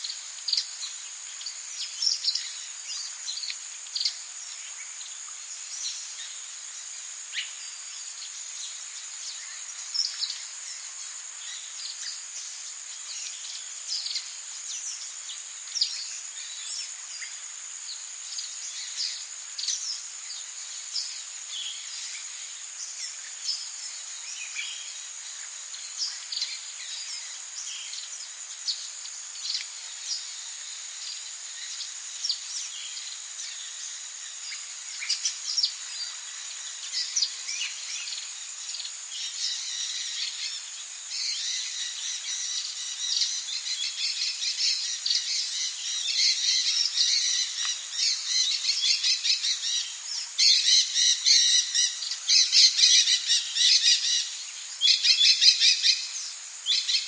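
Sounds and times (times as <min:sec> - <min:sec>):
high insect drone: 0:00.0 - 0:57.0
rain hiss: 0:00.0 - 0:57.0.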